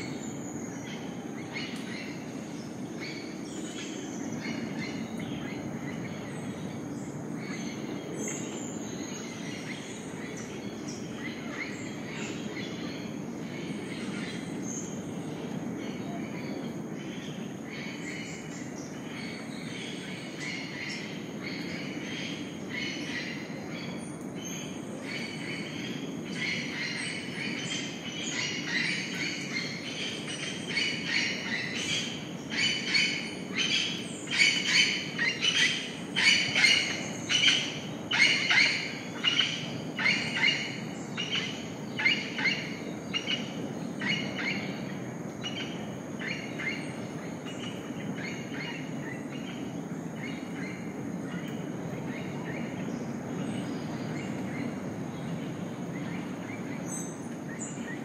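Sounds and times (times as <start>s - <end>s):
birds calling: 0.0s - 58.0s
low background hum: 0.0s - 58.0s.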